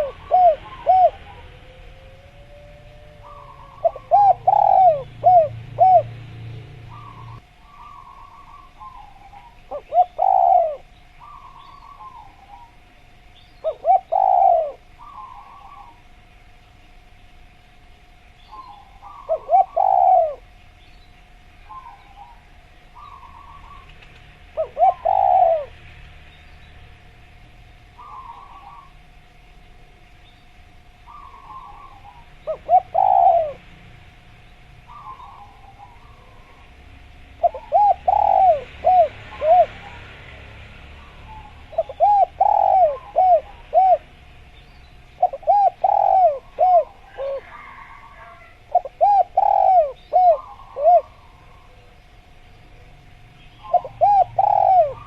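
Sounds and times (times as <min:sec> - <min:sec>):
dove cooing: 0:00.0 - 0:13.0, 0:13.6 - 0:16.2, 0:18.4 - 0:20.6, 0:21.6 - 0:26.0, 0:28.0 - 0:29.2, 0:31.0 - 0:33.8, 0:34.8 - 0:44.3, 0:45.2 - 0:52.0, 0:52.6 - 0:55.0
faint steady tone: 0:00.0 - 0:55.0.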